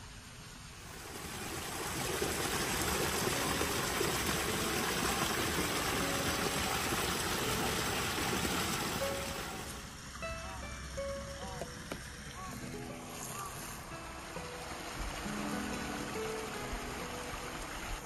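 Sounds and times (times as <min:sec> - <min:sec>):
water running over rocks: 0:00.8 - 0:10.2, 0:11.2 - 0:18.0.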